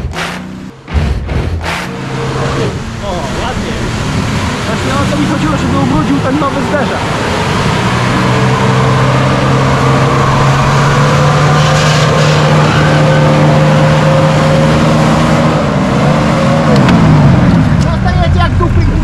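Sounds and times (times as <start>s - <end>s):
off-road vehicle engine revving: 0.0s - 19.0s
rushing noise: 0.0s - 19.0s.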